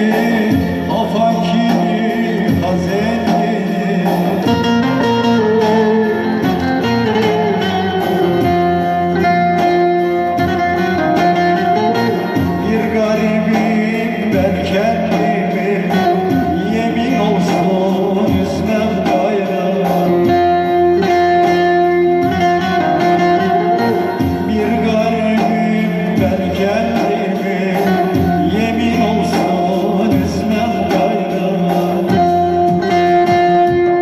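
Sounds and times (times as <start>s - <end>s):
keyboard accompaniment: 0.0s - 34.0s.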